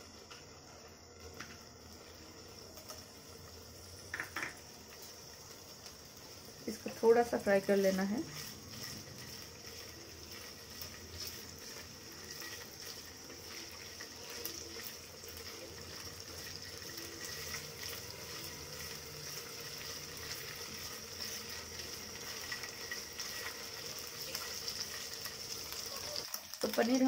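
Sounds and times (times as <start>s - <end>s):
spatula stirring in a pan: 0.0s - 26.7s
cheese frying in hot fat: 0.0s - 27.0s.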